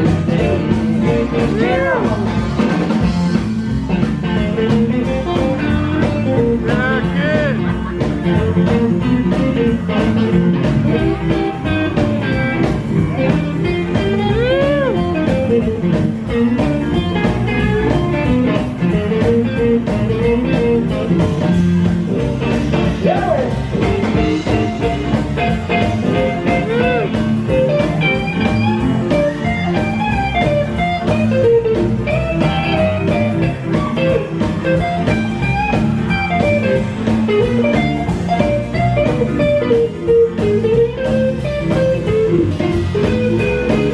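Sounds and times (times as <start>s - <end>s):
drums keeping a steady beat: 0.0s - 43.9s
electric guitar lead with string bends: 0.0s - 43.9s
upright bass: 0.0s - 43.9s.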